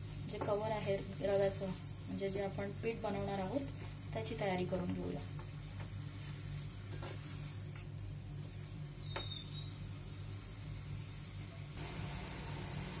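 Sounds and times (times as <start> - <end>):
wooden spatula stirring and scraping: 0.0 - 10.9
filling sizzling in a pan: 0.0 - 13.0.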